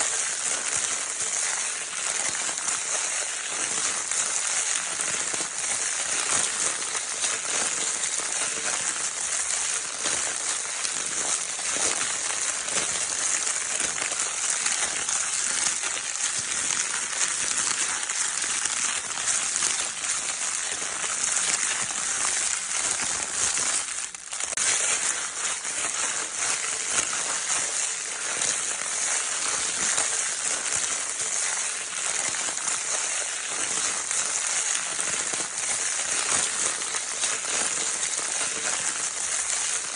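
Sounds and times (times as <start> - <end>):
crinkle paper crumpled and rustled: 0.0 - 39.9.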